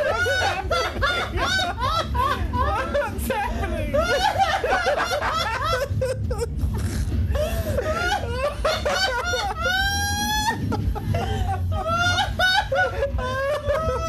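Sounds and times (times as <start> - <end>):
men laughing: 0.0 - 14.0.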